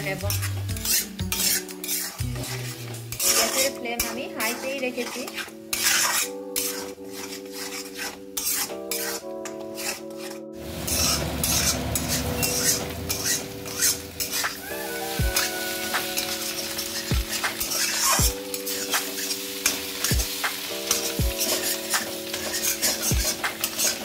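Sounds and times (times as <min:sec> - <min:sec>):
eggs sizzling in wok: 0:00.0 - 0:24.0
spatula scraping pan: 0:00.0 - 0:24.0.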